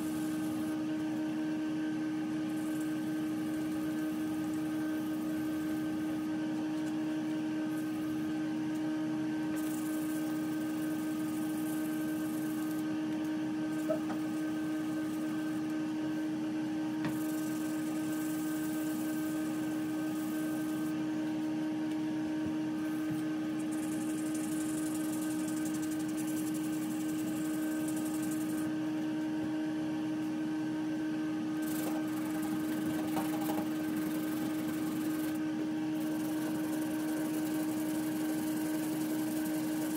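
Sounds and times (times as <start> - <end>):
steady droning hum: 0.0 - 39.9.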